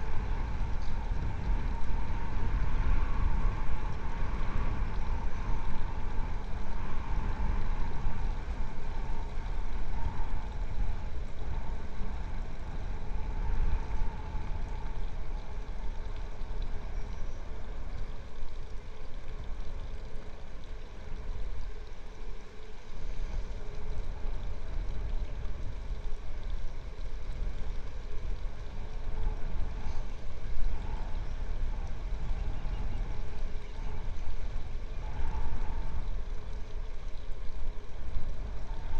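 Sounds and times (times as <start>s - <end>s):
faint steady hum: 0.0s - 38.9s
wind rumble on microphone: 0.0s - 38.9s.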